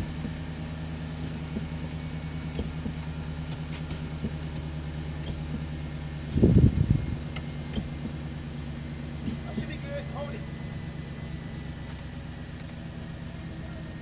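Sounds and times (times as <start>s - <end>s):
pickup engine idling: 0.0s - 14.0s.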